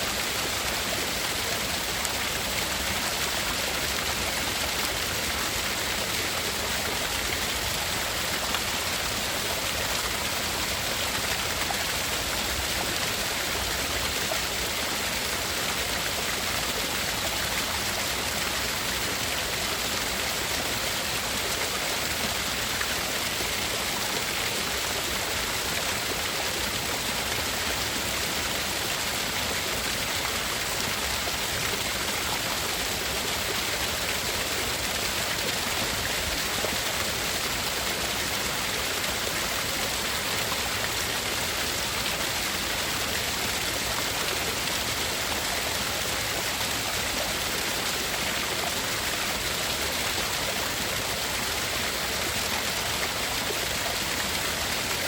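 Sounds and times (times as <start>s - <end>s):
steady rushing hiss noise: 0.0s - 55.0s.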